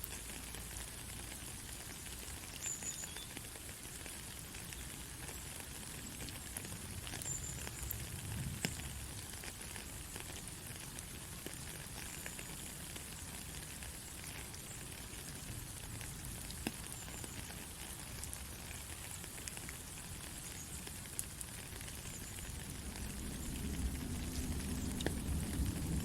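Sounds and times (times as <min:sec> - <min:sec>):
soft rain: 0:00.0 - 0:26.0.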